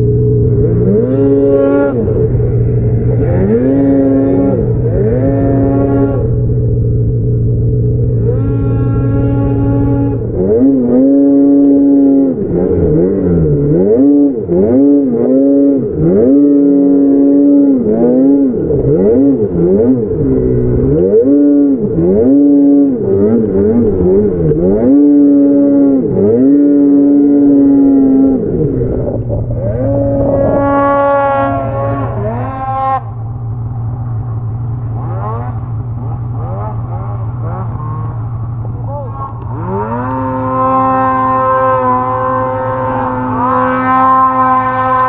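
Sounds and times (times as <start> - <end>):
snowmobile engine revving: 0.0 - 45.0.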